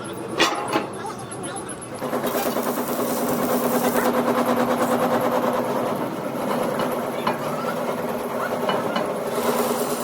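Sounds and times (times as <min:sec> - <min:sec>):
machine humming and rattling: 0:00.0 - 0:10.0.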